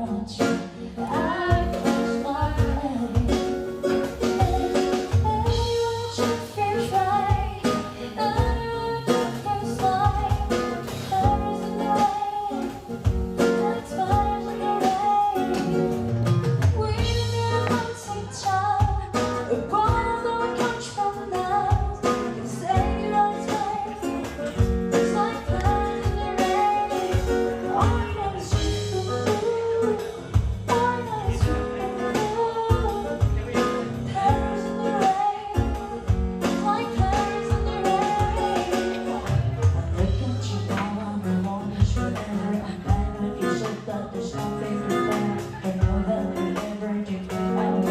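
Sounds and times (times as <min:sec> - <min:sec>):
guitar with steady beat: 0:00.0 - 0:47.9
woman singing: 0:00.0 - 0:47.9.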